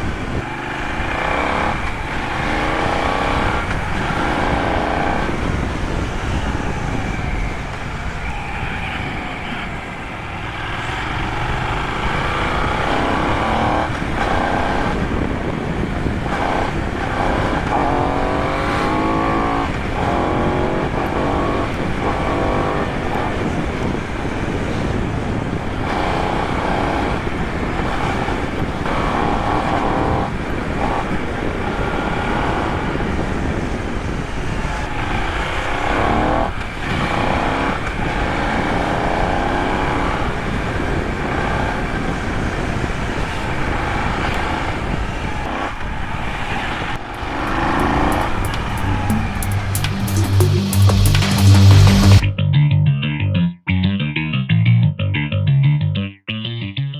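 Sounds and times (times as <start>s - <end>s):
motorcycle engine revving: 0.0s - 52.3s.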